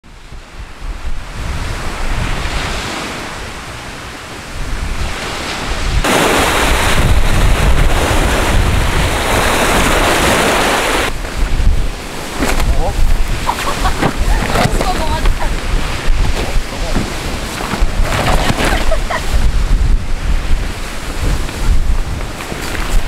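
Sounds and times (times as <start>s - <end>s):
wind buffeting microphone: 0.0s - 23.0s
waves breaking on shore: 0.1s - 23.0s.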